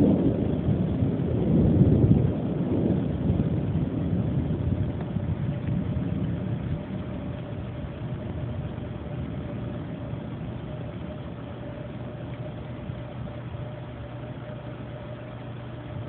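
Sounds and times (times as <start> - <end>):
faint high whine: 0.0 - 16.0
low rumble: 0.0 - 16.0
vehicle engine idling hum: 0.0 - 16.0.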